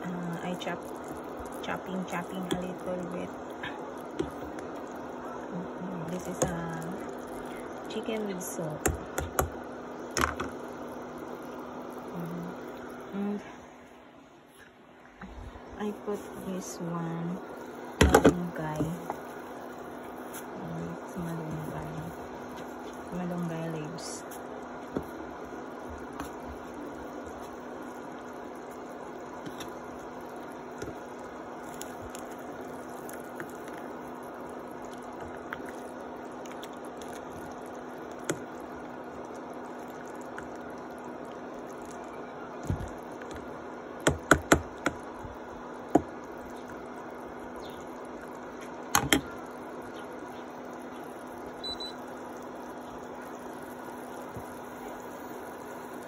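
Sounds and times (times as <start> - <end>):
induction cooktop hum and hiss: 0.0 - 56.0.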